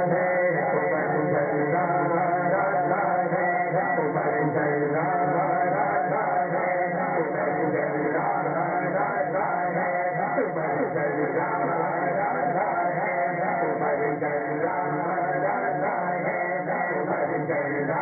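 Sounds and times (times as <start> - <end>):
man chanting over a pa system: 0.0 - 18.0.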